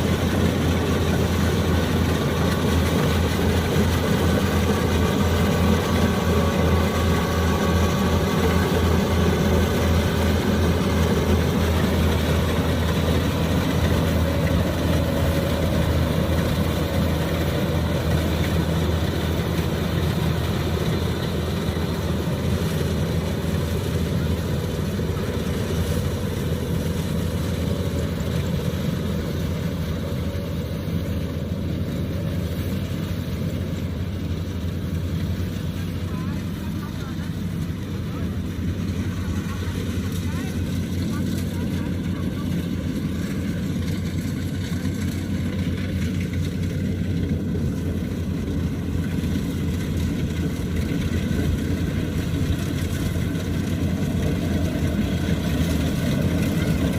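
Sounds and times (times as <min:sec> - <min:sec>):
combine harvester running: 0:00.0 - 0:56.9.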